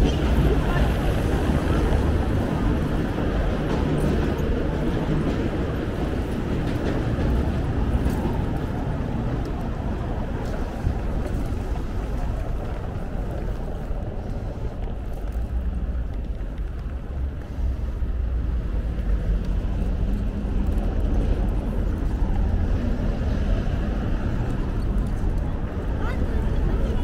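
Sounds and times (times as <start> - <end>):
street traffic: 0.0 - 27.0
bicycle rolling on cobbles: 0.1 - 27.0.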